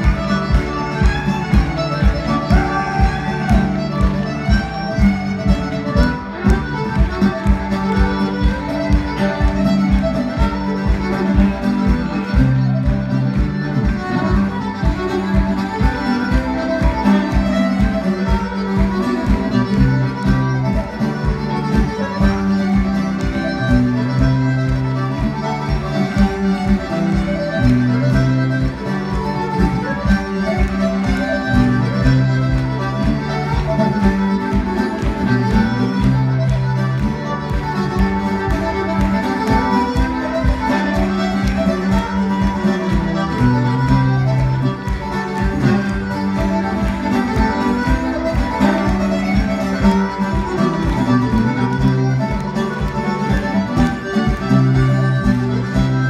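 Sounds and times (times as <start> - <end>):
fiddle dance tune: 0.0 - 56.0
guitar backing: 0.0 - 56.0.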